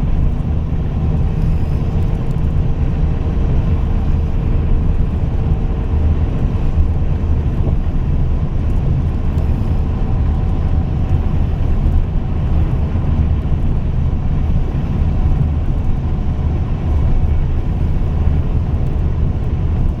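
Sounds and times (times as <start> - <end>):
coach diesel engine rumbling: 0.0 - 20.0.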